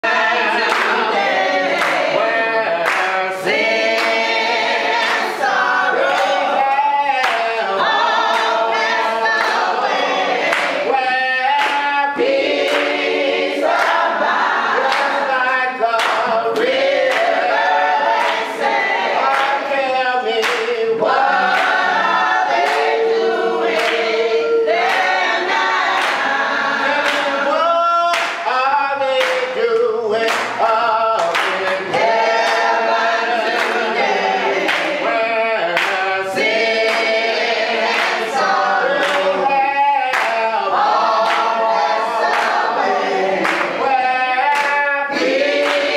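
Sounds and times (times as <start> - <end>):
group singing gospel song: 0.0 - 45.9
hand claps: 0.5 - 2.2, 2.8 - 9.7, 10.4 - 14.1, 14.8 - 21.9, 22.5 - 23.0, 23.7 - 24.2, 24.8 - 34.0, 34.6 - 42.8, 43.4 - 45.9.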